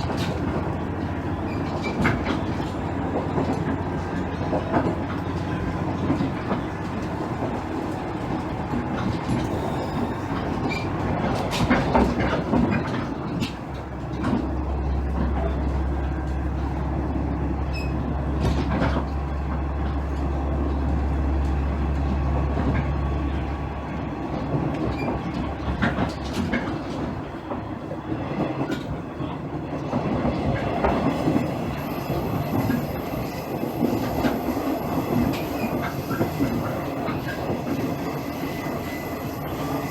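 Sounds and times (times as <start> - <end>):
wheels clicking over rail joints: 0.0 - 16.8, 24.3 - 39.9
train engine and wheels rumbling: 0.0 - 39.9.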